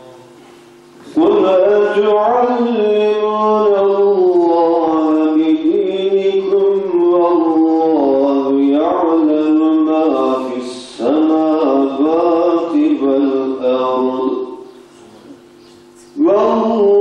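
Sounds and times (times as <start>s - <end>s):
man chanting melodically: 0.0s - 0.4s, 1.0s - 17.0s.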